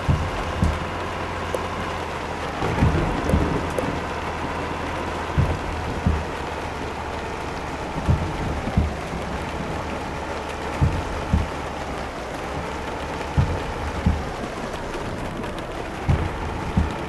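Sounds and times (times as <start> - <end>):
heavy low thumps: 0.0 - 12.0, 12.6 - 17.0
rushing road noise: 0.0 - 17.0
truck engine drone: 0.0 - 17.0.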